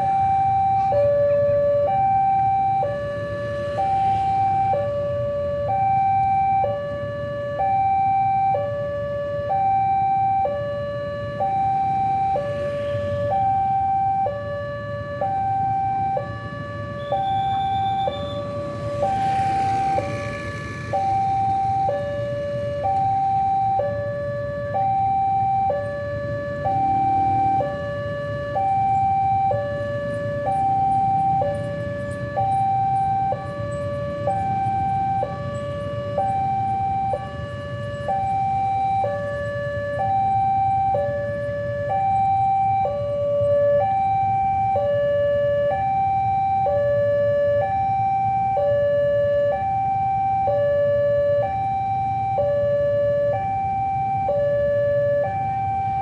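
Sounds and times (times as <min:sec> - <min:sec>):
motorcycle traffic rumble: 0:00.0 - 0:56.0
two-tone level crossing alarm: 0:00.0 - 0:56.0.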